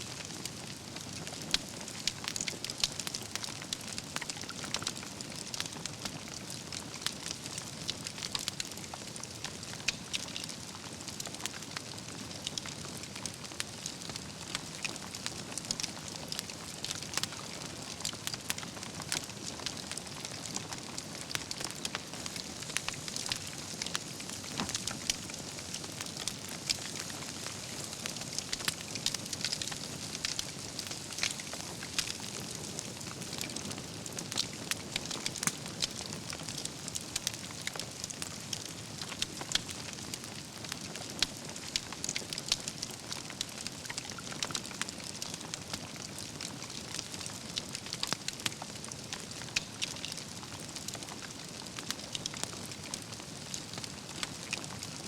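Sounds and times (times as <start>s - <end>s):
fire crackles and pops: 0.0s - 55.0s
campfire hissing: 0.1s - 55.0s.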